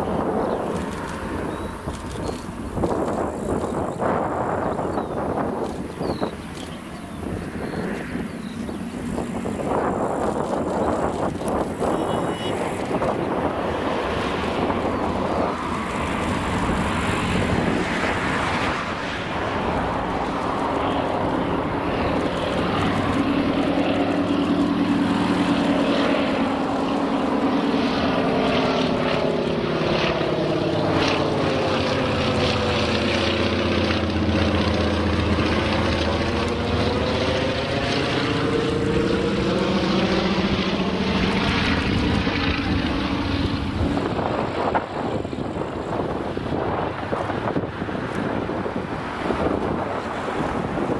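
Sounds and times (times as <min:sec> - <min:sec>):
propeller plane engine droning overhead: 0:00.0 - 0:50.9.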